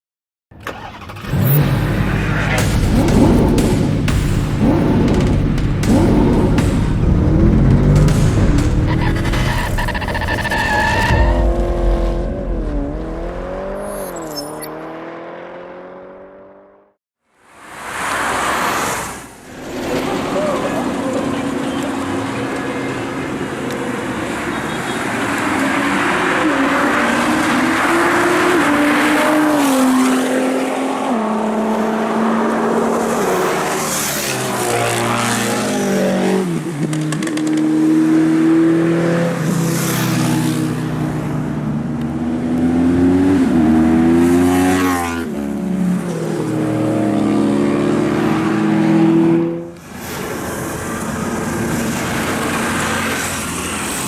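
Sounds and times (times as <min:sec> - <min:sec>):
sports car engines revving: 0:00.7 - 0:16.9, 0:19.6 - 0:54.0.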